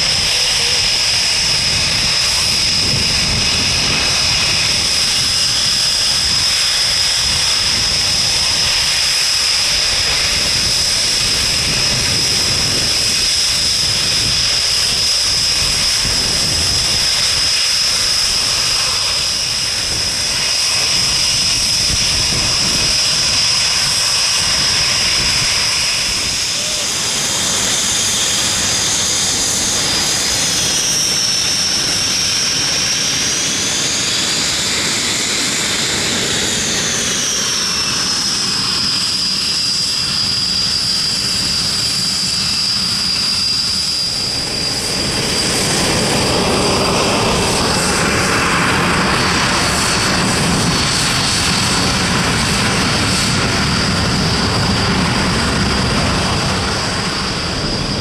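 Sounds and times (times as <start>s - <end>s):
jet engines whining: 0.0s - 58.0s
jet rush: 0.0s - 58.0s.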